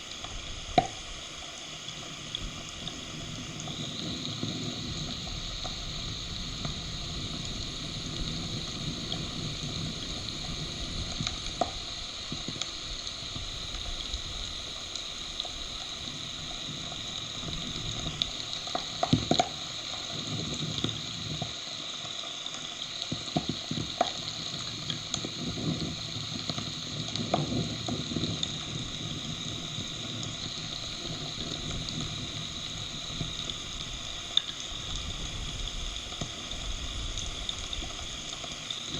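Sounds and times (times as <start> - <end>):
heavy rain hissing: 0.0 - 38.9
raindrops tapping microphone: 0.0 - 38.9.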